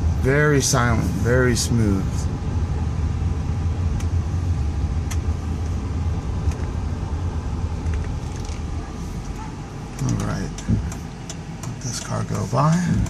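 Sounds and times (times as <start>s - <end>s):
car engine low rumble: 0.0s - 13.0s
road and tyre hiss: 0.0s - 13.0s.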